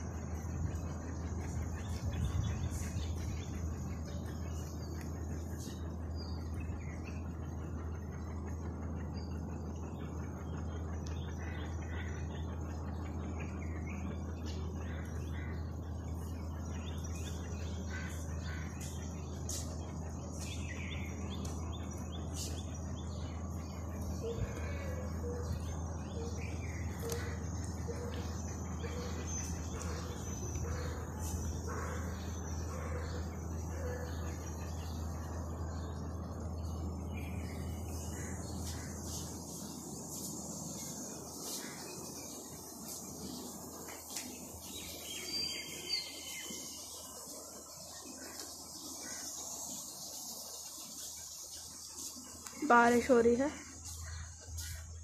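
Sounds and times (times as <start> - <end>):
birds chirping and calling: 0.0 - 55.0
low steady hum: 0.0 - 55.0.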